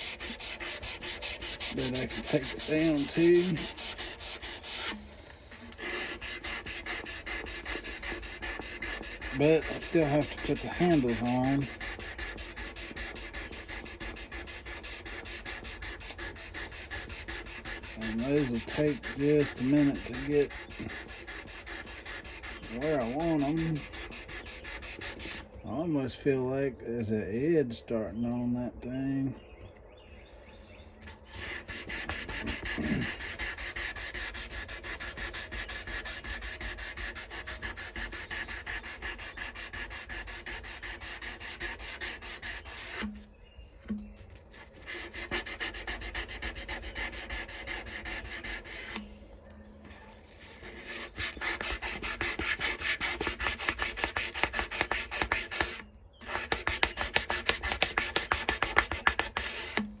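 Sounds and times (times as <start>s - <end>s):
sandpaper rasping on steel blade: 0.0s - 25.4s, 31.2s - 43.2s, 44.5s - 49.2s, 49.8s - 60.0s.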